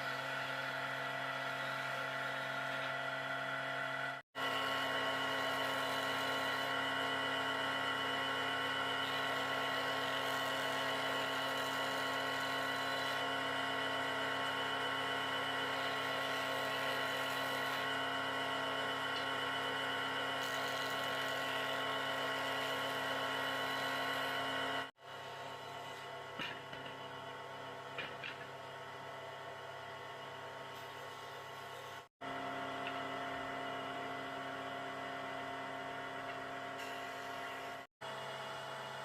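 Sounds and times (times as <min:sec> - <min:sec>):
machine hum with whine: 0:00.0 - 0:39.0.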